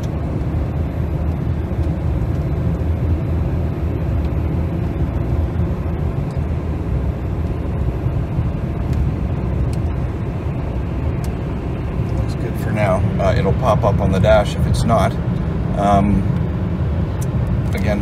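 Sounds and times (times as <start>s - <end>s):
car interior road and drivetrain noise: 0.0s - 18.0s.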